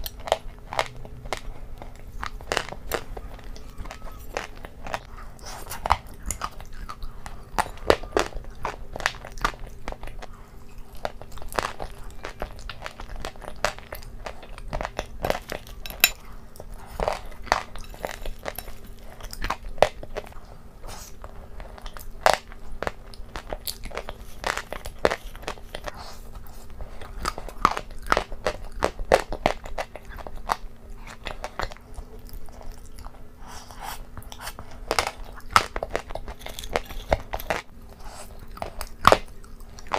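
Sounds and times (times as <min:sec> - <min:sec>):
faint steady hum: 0:00.0 - 0:39.9
person chewing crunchy food: 0:00.0 - 0:39.9.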